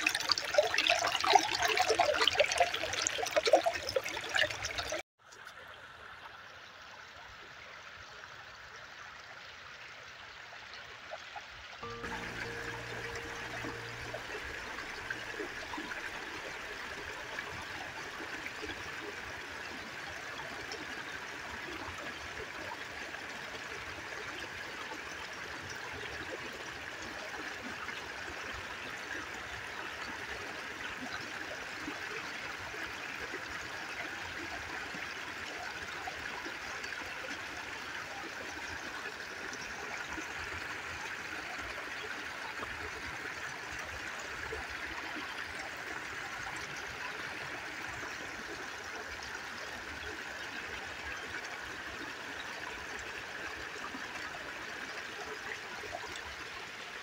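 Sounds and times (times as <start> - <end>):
stream splashing over rocks: 0.0 - 6.8, 10.3 - 57.0.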